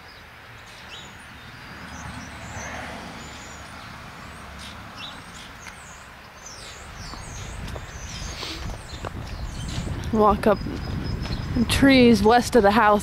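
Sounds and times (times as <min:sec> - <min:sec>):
small birds chirping: 0:00.0 - 0:13.0
low wind rumble: 0:00.5 - 0:13.0.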